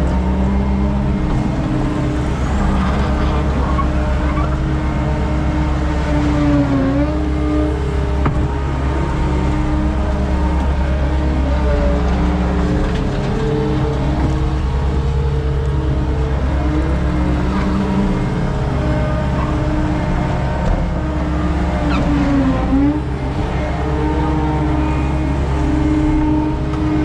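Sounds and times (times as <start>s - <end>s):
skid steer engine running: 0.0s - 27.0s.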